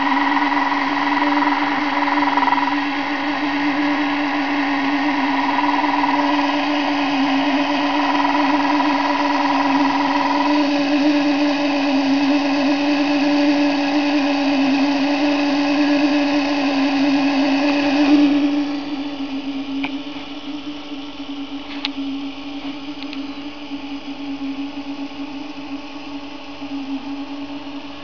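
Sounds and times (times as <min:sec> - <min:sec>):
high motor whine: 0:00.0 - 0:28.0.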